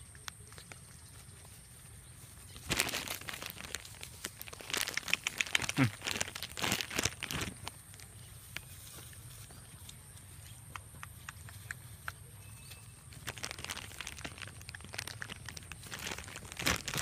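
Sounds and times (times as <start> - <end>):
dry crinkling and rustling: 0.0 - 17.0.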